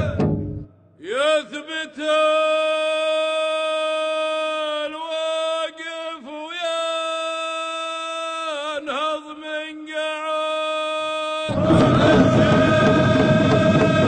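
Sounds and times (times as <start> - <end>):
man singing unaccompanied chant: 0.0 - 0.3, 1.0 - 14.0.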